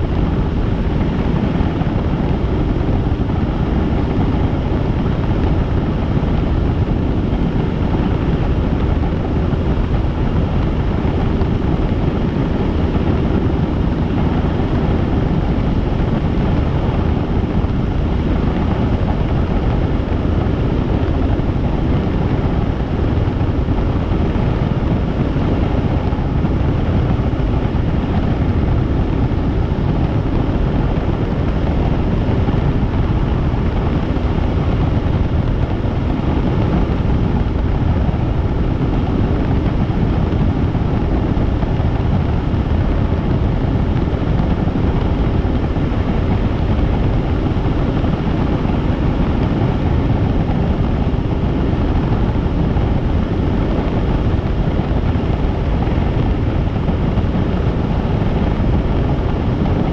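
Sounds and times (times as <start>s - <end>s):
helicopter rotor drone: 0.0s - 59.9s.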